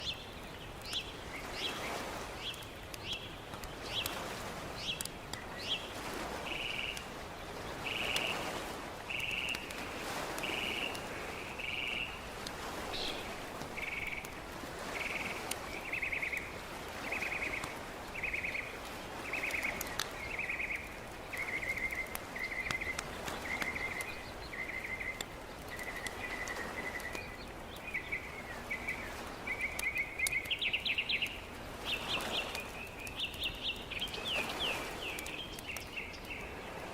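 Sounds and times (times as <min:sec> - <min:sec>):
steady background hiss: 0:00.0 - 0:36.9.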